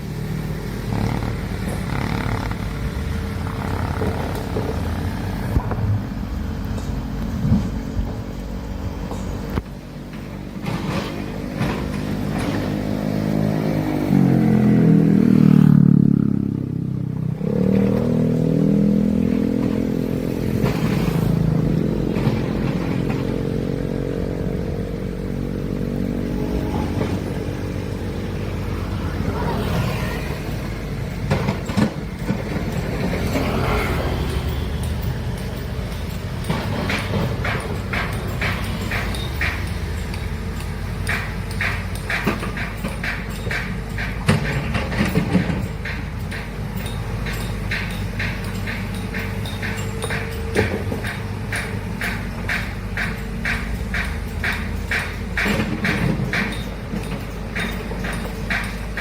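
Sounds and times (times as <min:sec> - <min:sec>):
sharp knocks and clatter: 0:00.0 - 0:08.4, 0:09.0 - 0:59.0
excavator diesel engine revving: 0:00.0 - 0:59.0.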